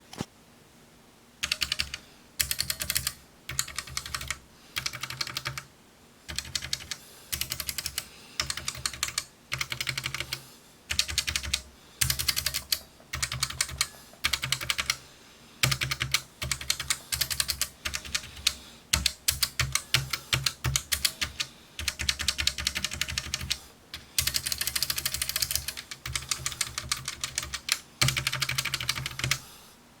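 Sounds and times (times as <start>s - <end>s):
mechanical keyboard typing: 1.4s - 5.7s, 6.3s - 15.0s, 15.6s - 29.4s.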